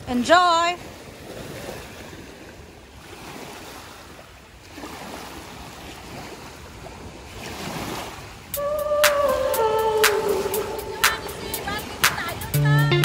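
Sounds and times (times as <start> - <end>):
lake waves lapping: 0.0 - 12.6.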